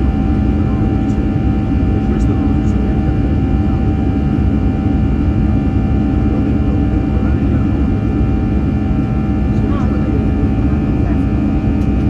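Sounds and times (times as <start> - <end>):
airplane cabin engine drone: 0.0 - 12.0
steady humming tones: 0.0 - 12.0.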